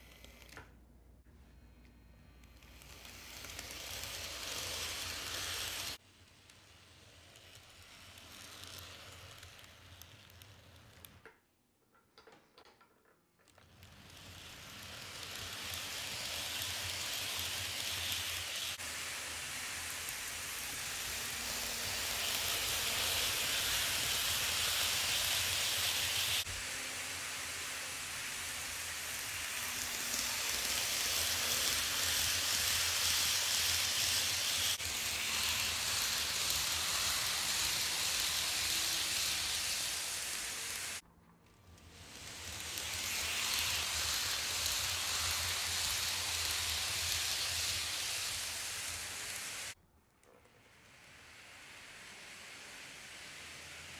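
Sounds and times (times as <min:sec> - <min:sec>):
model train wheels rolling on rails: 0:00.0 - 0:00.8, 0:01.6 - 0:53.9.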